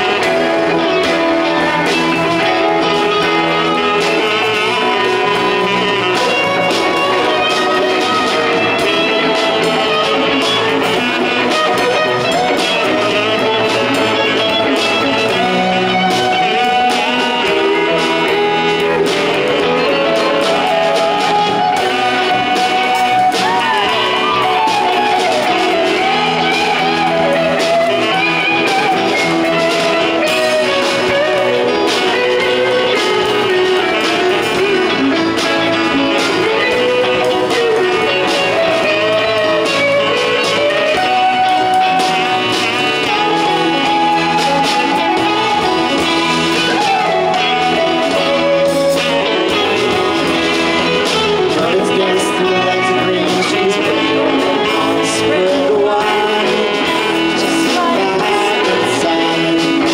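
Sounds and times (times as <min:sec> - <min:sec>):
live band music: 0:00.0 - 0:59.9
melodic lead line: 0:00.0 - 0:59.9.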